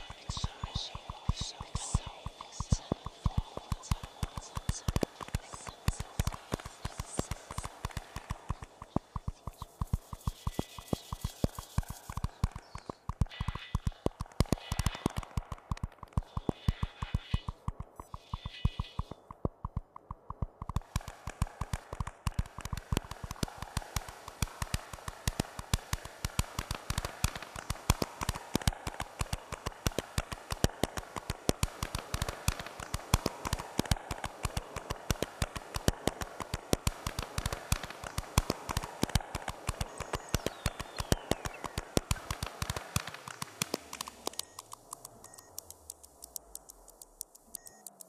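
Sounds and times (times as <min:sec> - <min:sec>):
steady hiss: 0:00.0 - 0:15.4, 0:21.0 - 0:47.6
sharp electronic clicks: 0:00.0 - 0:48.0.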